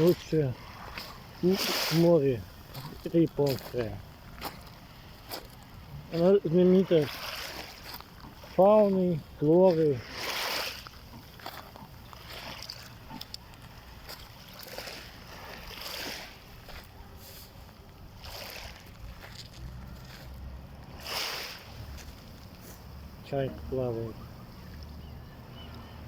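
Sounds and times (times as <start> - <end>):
small waves lapping at shore: 0.0 - 26.0.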